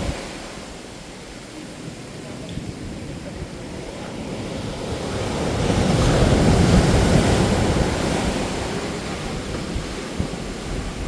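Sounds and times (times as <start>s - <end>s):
ocean wave breaking: 0.0s - 11.0s.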